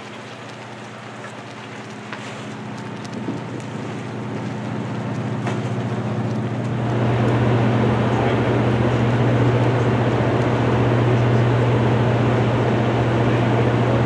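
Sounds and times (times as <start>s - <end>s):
low machinery hum: 0.0s - 14.0s
wind buffeting microphone: 0.0s - 14.0s.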